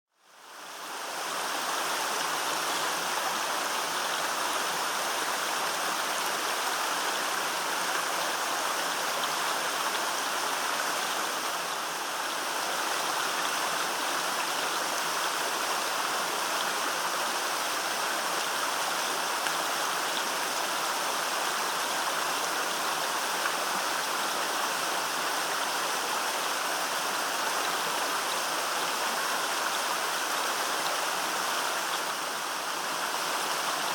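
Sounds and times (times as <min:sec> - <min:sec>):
waterfall rushing and splashing: 0:00.2 - 0:33.9.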